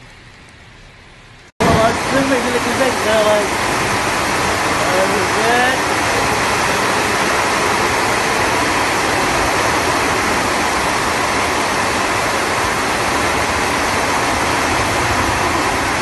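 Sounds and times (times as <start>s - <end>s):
heavy downpour: 0.0s - 16.0s
running floodwater: 1.6s - 16.0s.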